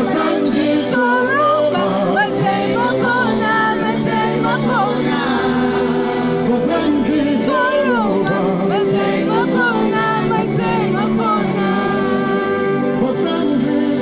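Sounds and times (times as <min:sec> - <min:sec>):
keyboard accompaniment: 0:00.0 - 0:14.0
singers performing gospel song: 0:00.0 - 0:14.0.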